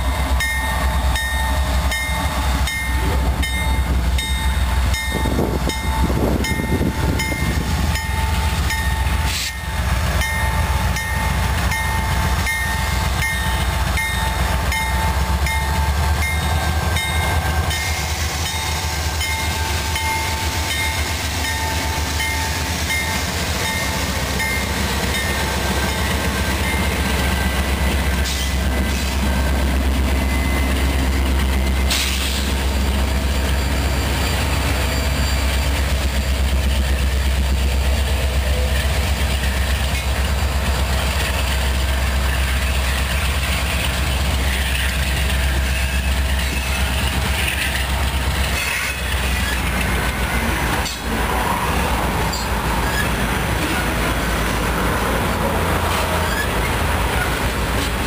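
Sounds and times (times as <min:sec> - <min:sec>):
diesel locomotive passing: 0:00.0 - 0:58.0
train wheels rumbling and clacking: 0:00.0 - 0:58.0.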